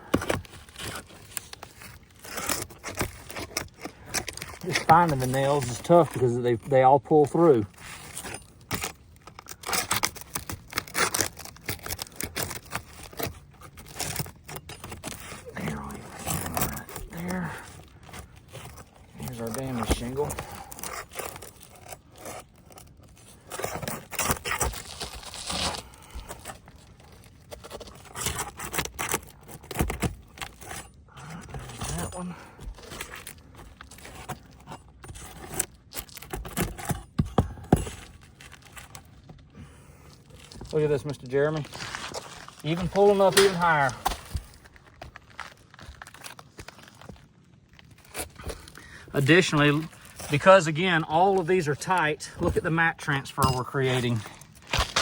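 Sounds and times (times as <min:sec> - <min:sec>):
roof shingles scraping and tearing: 0:00.0 - 0:55.0.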